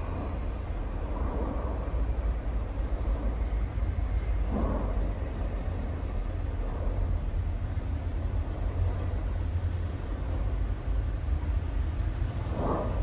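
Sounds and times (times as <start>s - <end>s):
volcano rumbling: 0.0s - 13.0s.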